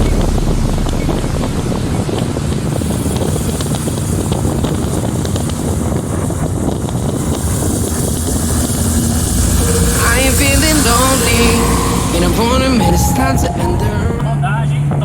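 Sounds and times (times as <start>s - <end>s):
car road and engine noise: 0.0s - 15.0s
wind buffeting microphone: 0.0s - 15.0s.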